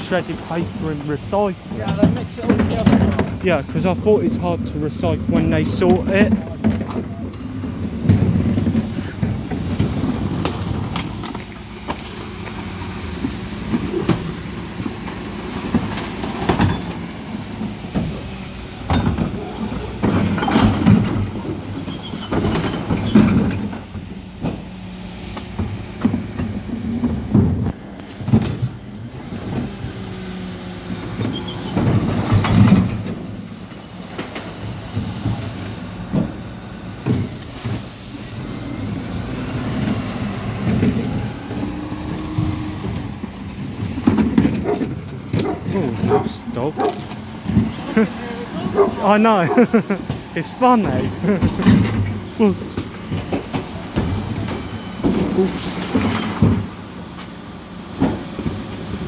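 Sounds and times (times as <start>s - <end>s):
bins clattering on lift: 0.0s - 24.8s, 30.9s - 37.9s, 39.3s - 57.2s
truck diesel engine and hydraulics: 0.0s - 59.0s.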